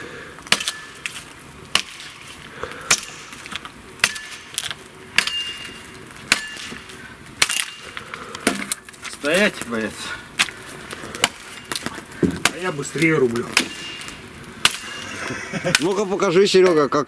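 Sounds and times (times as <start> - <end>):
axe chopping wood: 0.4 - 9.5, 10.4 - 16.1.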